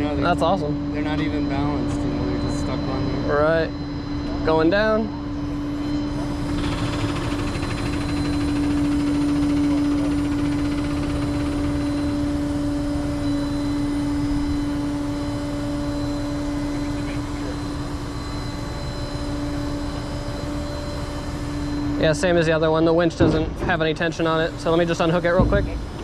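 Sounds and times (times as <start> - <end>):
hydraulics humming: 0.0 - 26.0.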